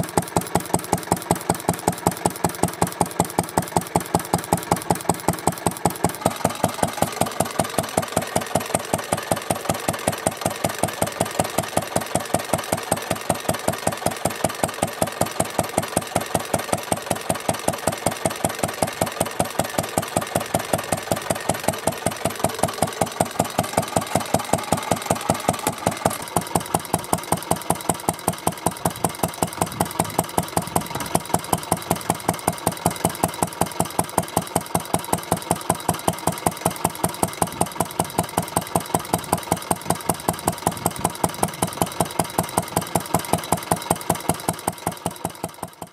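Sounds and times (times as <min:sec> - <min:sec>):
stationary engine running: 0:00.0 - 0:45.9.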